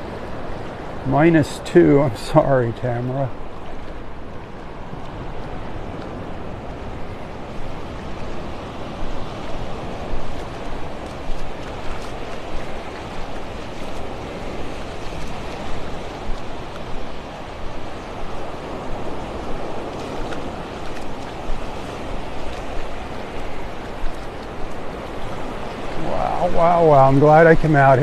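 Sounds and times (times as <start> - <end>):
small waves washing on beach: 0.0 - 28.0.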